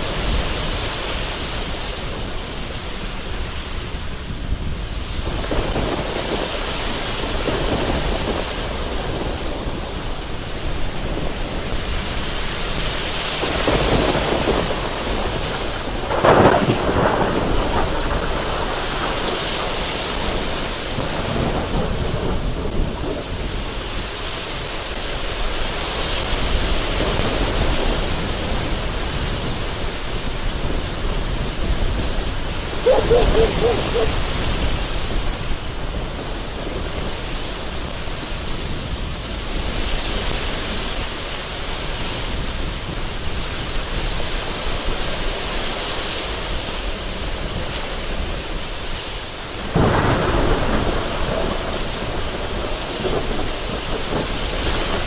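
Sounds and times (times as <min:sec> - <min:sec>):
thunder rumbling: 0:00.0 - 0:25.5, 0:26.2 - 0:40.7, 0:49.4 - 0:55.0
gusty wind: 0:00.0 - 0:55.0
heavy rain against window: 0:00.0 - 0:55.0.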